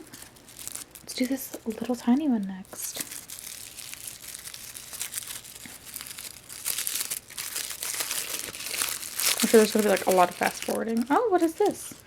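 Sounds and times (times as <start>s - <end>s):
wrapping paper crinkling and tearing: 0.0s - 12.0s.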